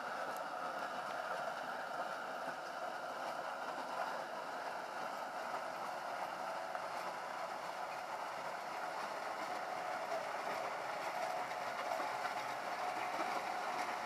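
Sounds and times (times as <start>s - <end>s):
motor grader running: 0.0s - 14.0s.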